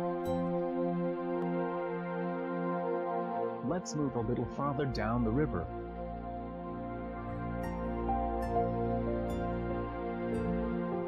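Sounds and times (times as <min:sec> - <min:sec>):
sustained chord music: 0:00.0 - 0:11.0.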